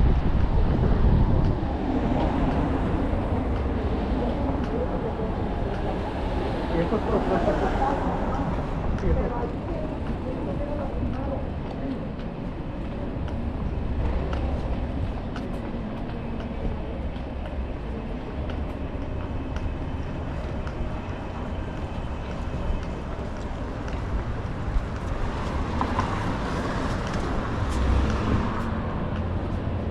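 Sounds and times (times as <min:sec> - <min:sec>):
low rumble of traffic: 0:00.0 - 0:29.9.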